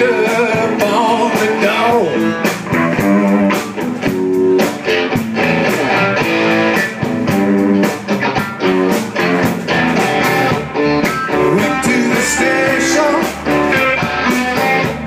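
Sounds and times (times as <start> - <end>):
blues band playing: 0.0 - 15.0
guitar fill with bent notes: 0.0 - 15.0.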